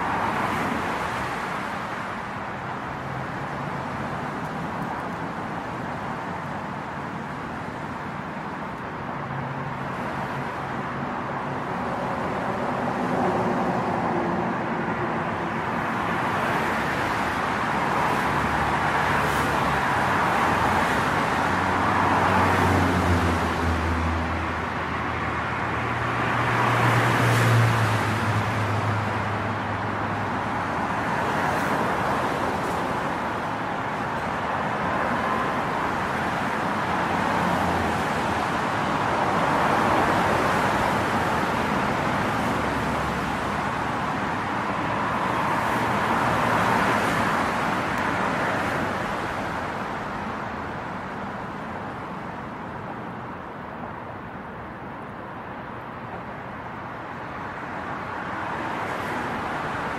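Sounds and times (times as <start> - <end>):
city road traffic: 0.0 - 59.9.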